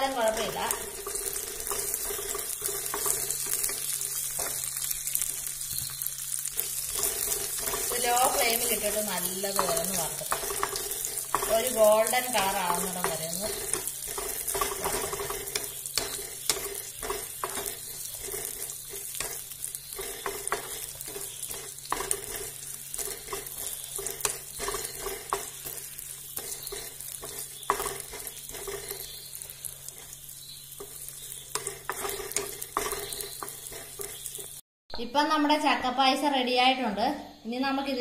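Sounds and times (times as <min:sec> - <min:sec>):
nuts sizzling in oil: 0:00.0 - 0:34.6
spoon scraping a pan: 0:00.1 - 0:34.6.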